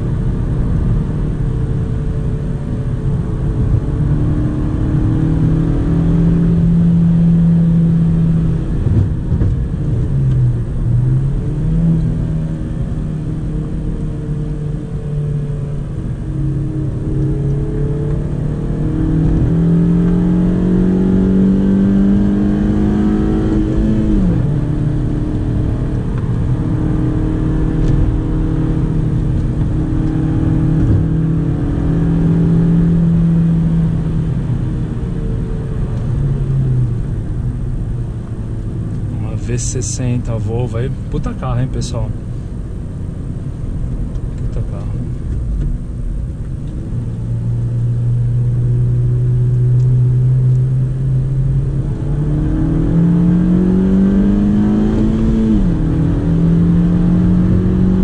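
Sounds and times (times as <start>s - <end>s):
car engine accelerating inside cabin: 0.0s - 58.0s.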